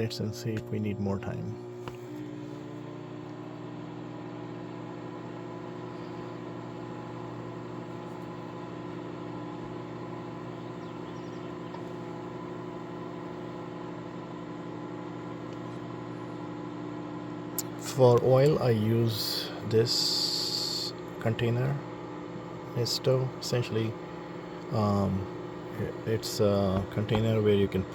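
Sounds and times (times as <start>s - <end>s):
microwave oven hum: 0.0s - 27.9s.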